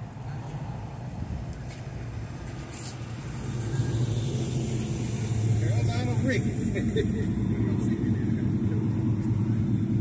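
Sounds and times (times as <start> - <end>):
car engine driving slowly past: 0.0 - 10.0.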